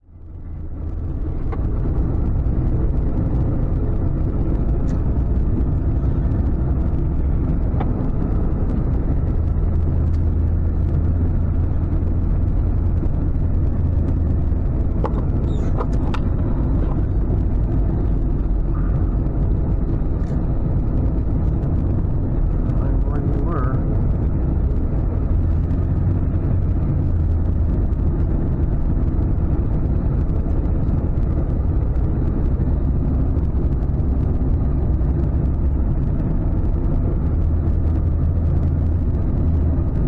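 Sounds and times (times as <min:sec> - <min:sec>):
truck engine and road noise: 0:00.0 - 0:40.0.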